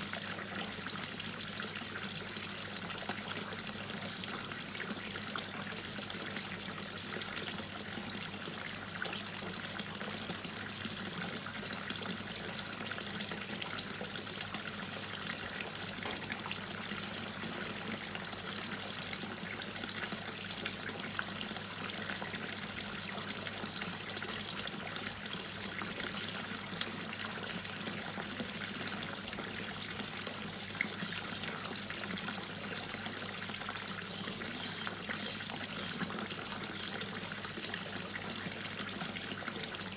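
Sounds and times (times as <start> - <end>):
water dripping and trickling: 0.0 - 39.9.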